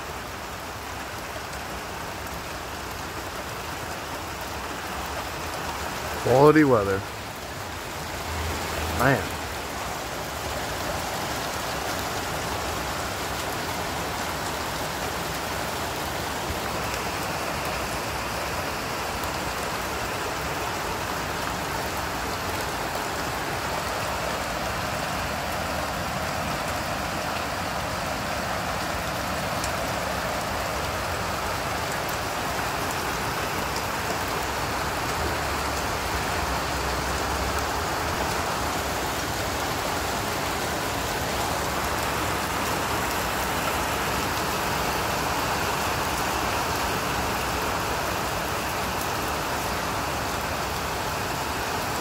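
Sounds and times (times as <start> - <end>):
heavy rain falling: 0.0 - 52.0.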